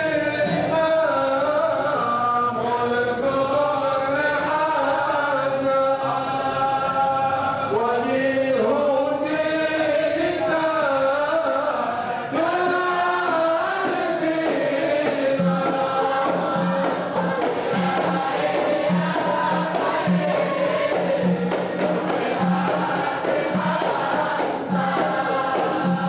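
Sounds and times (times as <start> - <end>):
men chanting a hymn in unison: 0.0 - 26.0.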